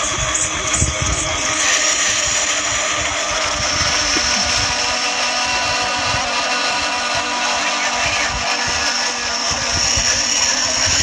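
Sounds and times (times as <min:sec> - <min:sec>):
droning hum with held tones: 0:00.0 - 0:11.0
wind rumbling on microphone: 0:00.0 - 0:11.0.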